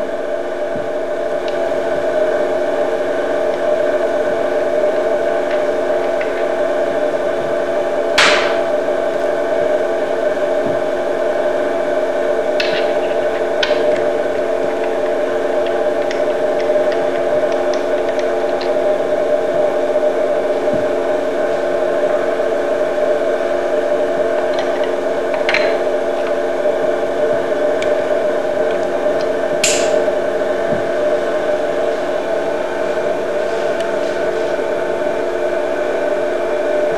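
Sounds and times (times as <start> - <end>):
multi-tone machine hum: 0.0 - 36.9.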